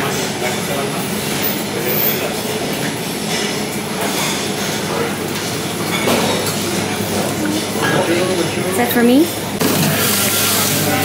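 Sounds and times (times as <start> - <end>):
many voices talking indistinctly: 0.0 - 11.0.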